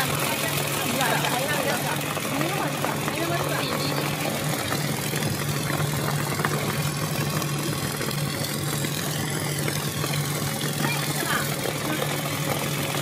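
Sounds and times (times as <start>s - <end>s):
production line machinery running: 0.0s - 13.0s.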